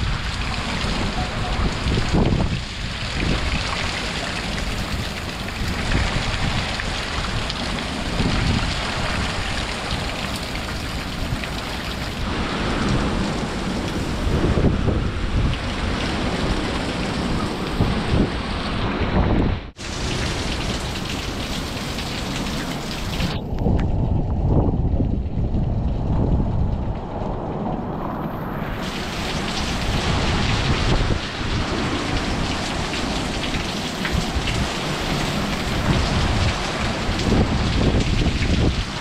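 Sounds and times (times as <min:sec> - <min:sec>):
gusting wind rumbles: 0:00.0 - 0:39.0
heavy rain pouring: 0:00.0 - 0:39.0.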